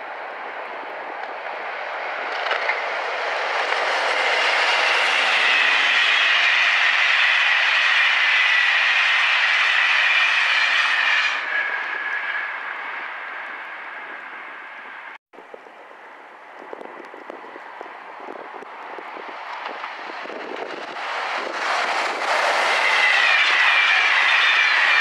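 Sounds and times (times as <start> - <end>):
passenger train passing at speed: 0.0 - 15.2, 15.8 - 25.0
high whine of train: 0.0 - 25.0.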